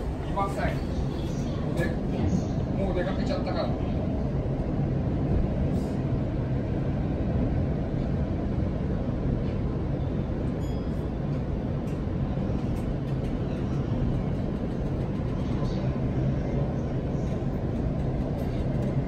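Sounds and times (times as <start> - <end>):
train rumbling from inside carriage: 0.0 - 19.0.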